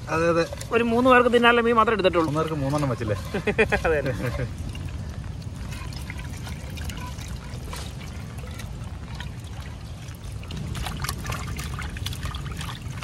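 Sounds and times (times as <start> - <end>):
water pouring and trickling: 0.0 - 13.0.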